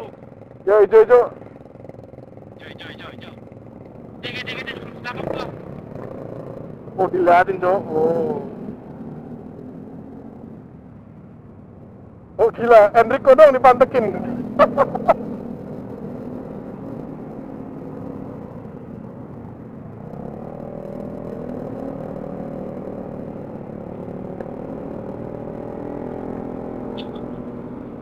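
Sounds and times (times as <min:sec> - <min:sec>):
scooter engine droning: 0:00.0 - 0:11.5, 0:12.4 - 0:28.0
low road rumble: 0:00.0 - 0:28.0.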